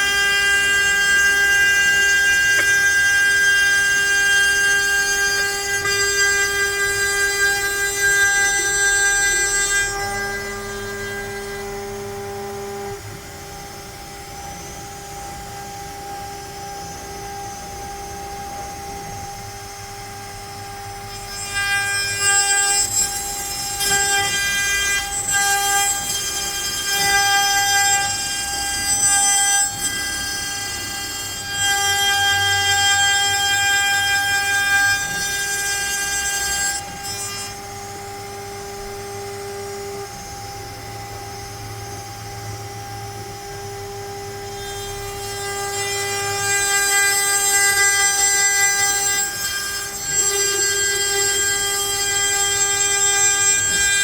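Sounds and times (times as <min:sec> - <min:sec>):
router spindle whining: 0:00.0 - 0:54.0.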